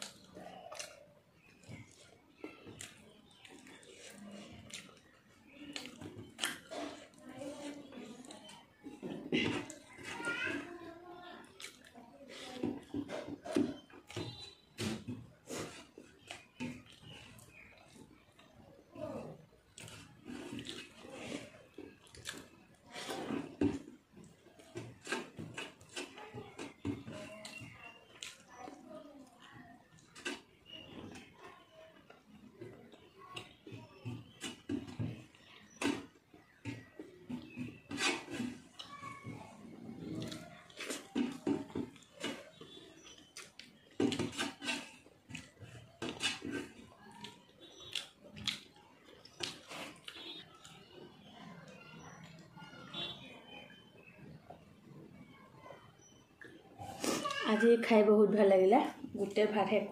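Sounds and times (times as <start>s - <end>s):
chewing: 0.0s - 52.6s, 55.3s - 57.4s.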